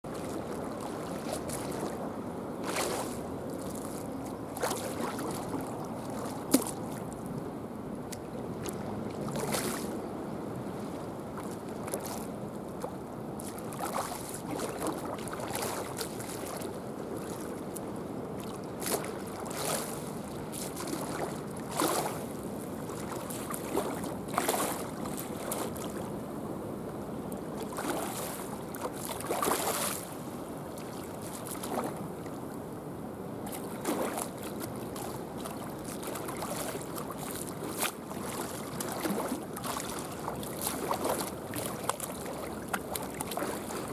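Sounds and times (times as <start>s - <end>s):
seawater lapping and splashing: 0.0s - 43.9s
wind: 0.0s - 43.9s.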